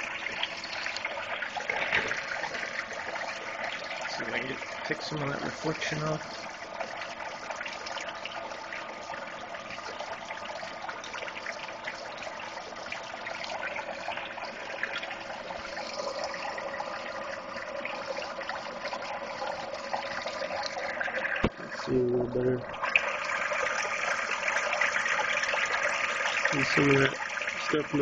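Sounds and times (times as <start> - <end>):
water churning and splashing: 0.0 - 28.0.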